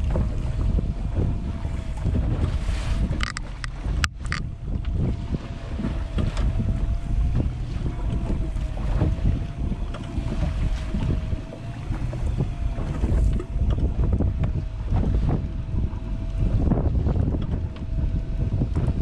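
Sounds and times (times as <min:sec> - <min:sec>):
water sloshing against hull: 0:00.0 - 0:19.0
wind buffeting microphone: 0:00.0 - 0:19.0.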